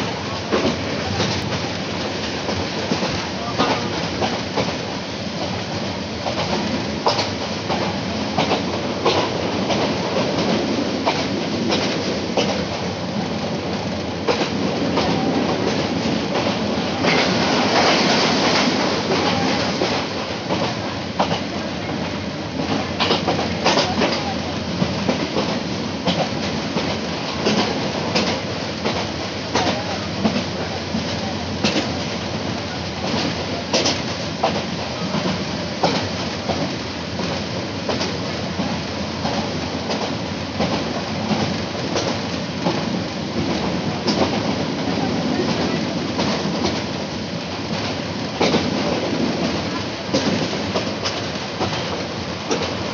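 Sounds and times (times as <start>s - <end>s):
train rumble and rush: 0.0s - 52.9s.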